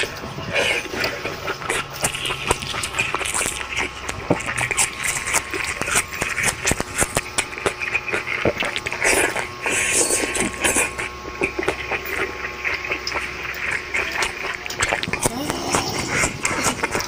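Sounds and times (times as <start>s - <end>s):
wet chewing and smacking: 0.0s - 17.0s.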